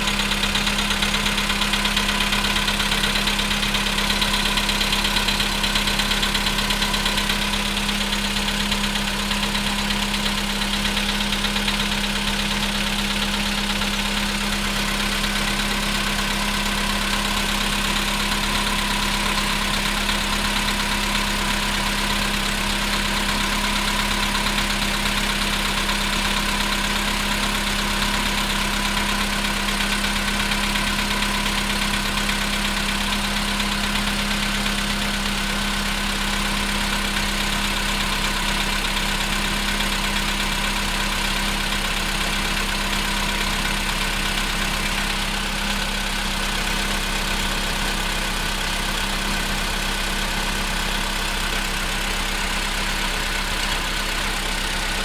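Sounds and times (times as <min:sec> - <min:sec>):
car engine idling with knocking: 0:00.0 - 0:55.0.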